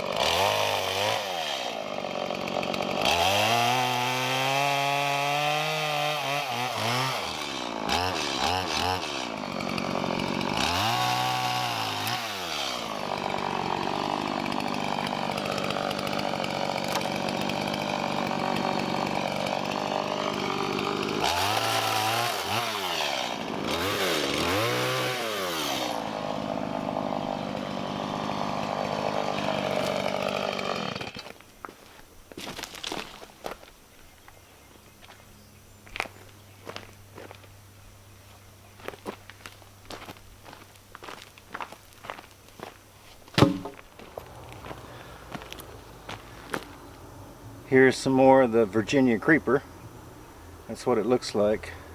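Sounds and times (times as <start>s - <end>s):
chainsaw cutting wood: 0.0s - 33.8s, 38.8s - 47.0s, 47.7s - 49.6s.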